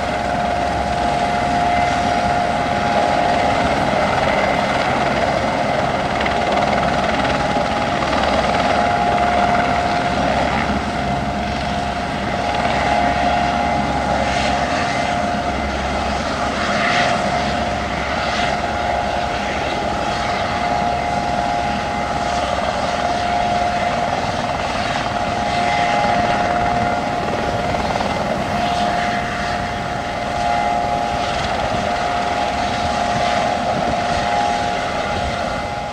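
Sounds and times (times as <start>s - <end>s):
helicopter rotor beat: 0.0s - 35.9s
helicopter turbine whine: 0.0s - 35.9s.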